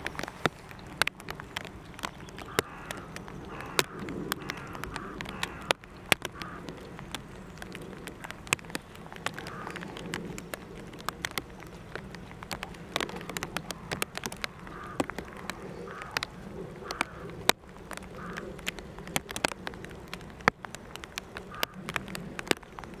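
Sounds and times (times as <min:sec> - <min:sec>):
bird calls: 0:00.0 - 0:23.0
sharp crackling clicks: 0:00.0 - 0:23.0.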